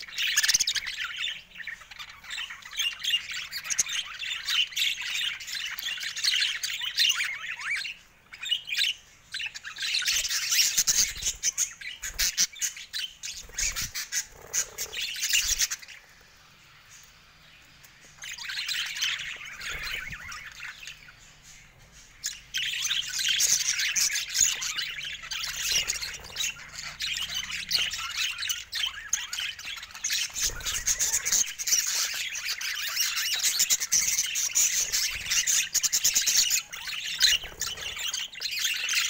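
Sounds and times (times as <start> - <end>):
budgerigars chattering: 0.0 - 39.0.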